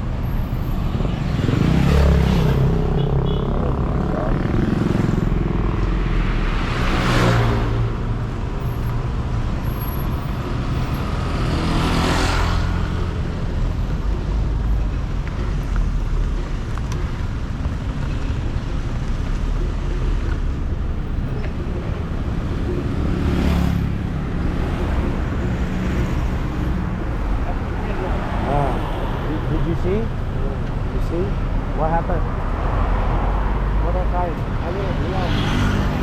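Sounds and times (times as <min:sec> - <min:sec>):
traffic engine rumble: 0:00.0 - 0:36.0
vehicles passing close by: 0:00.0 - 0:36.0.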